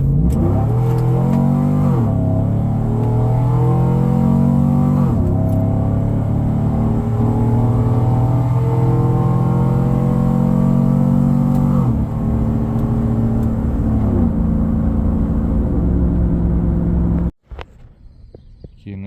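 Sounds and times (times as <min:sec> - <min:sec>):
truck engine accelerating: 0:00.0 - 0:17.4.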